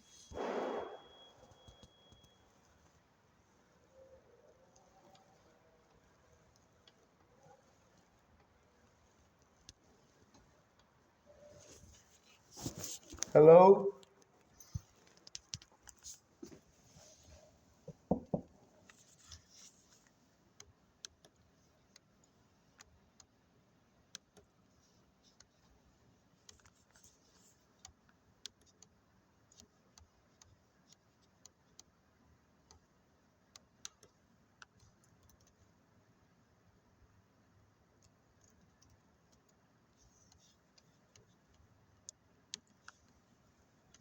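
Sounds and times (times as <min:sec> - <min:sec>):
faint clicks and light taps: 0:04.7 - 0:13.3, 0:14.0 - 0:23.4, 0:24.0 - 0:36.1, 0:36.9 - 0:44.0.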